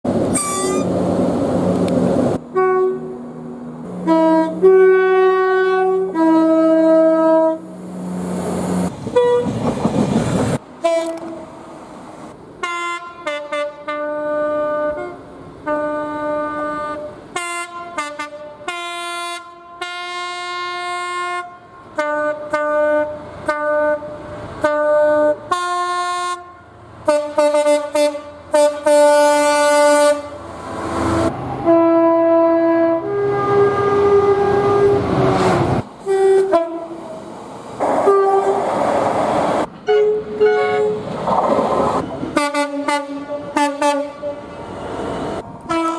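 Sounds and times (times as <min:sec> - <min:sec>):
passing train rush: 0:00.0 - 0:45.9
train horns: 0:00.3 - 0:01.0, 0:02.4 - 0:07.8, 0:09.1 - 0:09.6, 0:10.8 - 0:11.6, 0:12.6 - 0:30.4, 0:31.2 - 0:38.8, 0:39.8 - 0:41.1, 0:42.2 - 0:44.6, 0:45.6 - 0:45.9.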